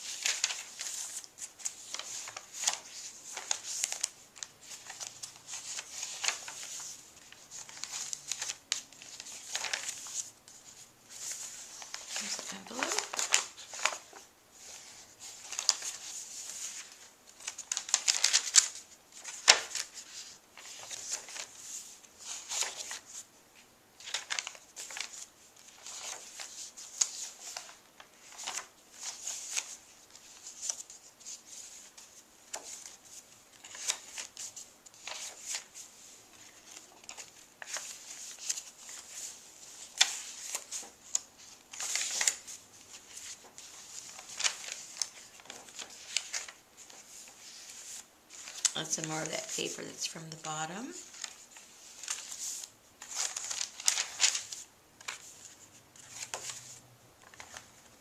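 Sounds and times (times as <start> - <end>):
paper pages rustling: 0.0 - 58.0.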